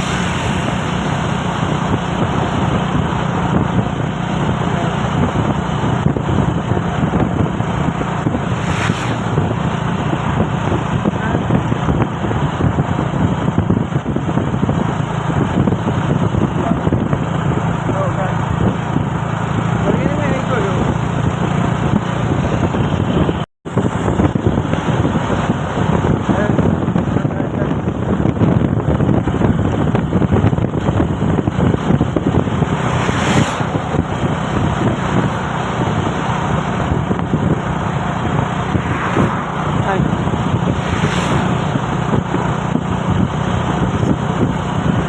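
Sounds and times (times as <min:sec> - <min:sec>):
diesel truck engine running: 0:00.0 - 0:45.0
wind buffeting microphone: 0:00.0 - 0:45.0.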